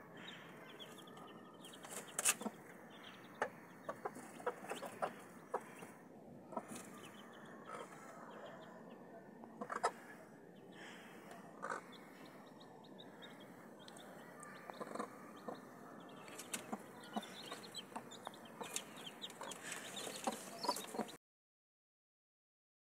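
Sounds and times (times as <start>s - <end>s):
chicks peeping: 0.0s - 21.2s
hen clucking: 0.0s - 21.2s.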